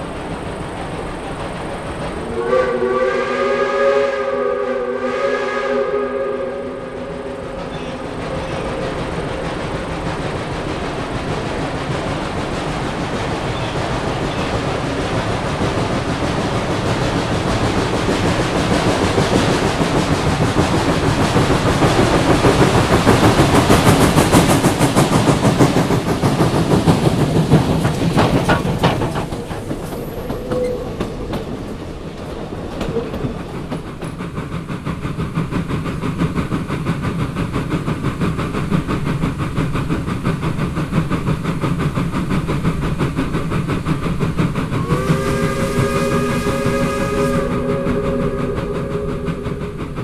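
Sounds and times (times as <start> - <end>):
steam locomotive exhaust beat: 0.0 - 50.0
train wheels on rails: 0.0 - 50.0.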